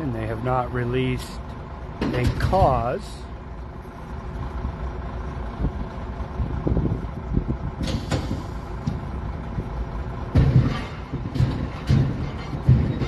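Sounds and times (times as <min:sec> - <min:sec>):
diesel equipment rumbling: 0:00.0 - 0:13.0.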